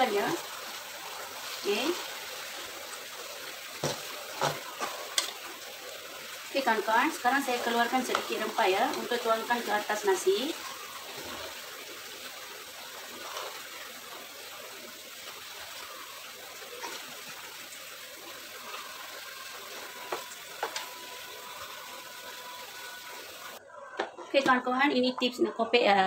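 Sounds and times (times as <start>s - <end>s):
food sizzling in a wok: 0.0s - 23.7s.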